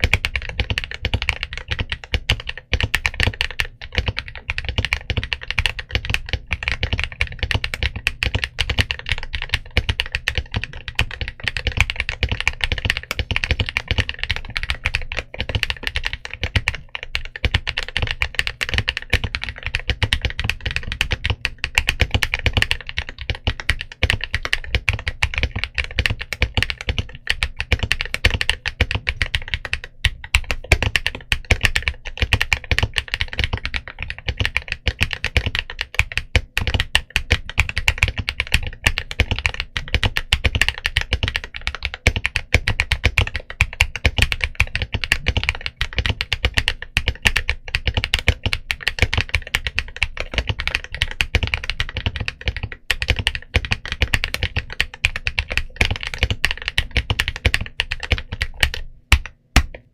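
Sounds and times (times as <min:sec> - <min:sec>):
fast mechanical keyboard typing: 0:00.0 - 0:59.9.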